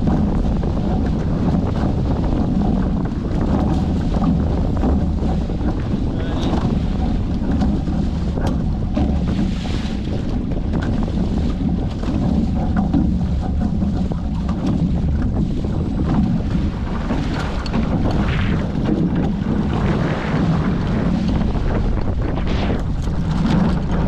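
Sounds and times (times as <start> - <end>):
water splashing past hulls: 0.0 - 24.0
wind buffeting microphone: 0.0 - 24.0.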